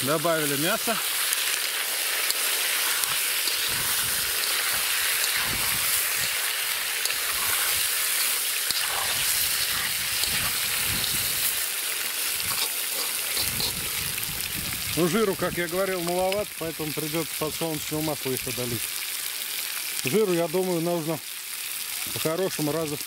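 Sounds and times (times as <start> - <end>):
meat sizzling in fat: 0.0 - 23.0.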